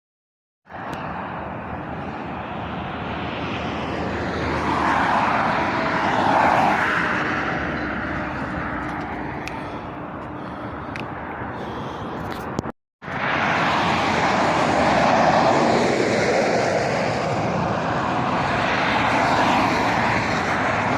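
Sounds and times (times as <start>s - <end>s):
road traffic: 0.6s - 20.9s
vehicle passing close: 0.7s - 12.2s, 13.0s - 20.9s.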